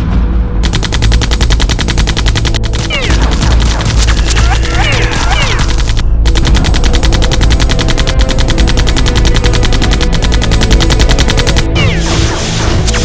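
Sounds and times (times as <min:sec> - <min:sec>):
rapid machine-gun fire: 0:00.6 - 0:13.0.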